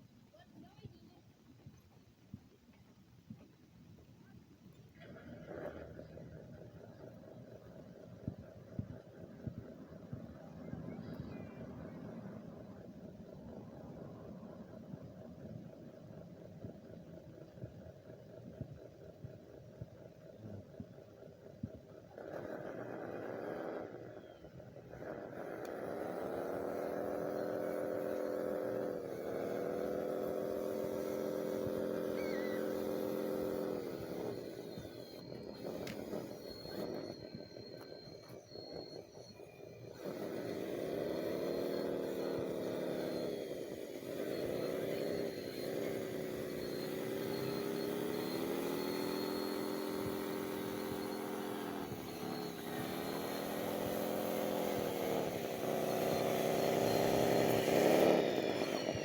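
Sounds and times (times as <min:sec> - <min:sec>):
electric motor whining: 0:04.8 - 0:59.0.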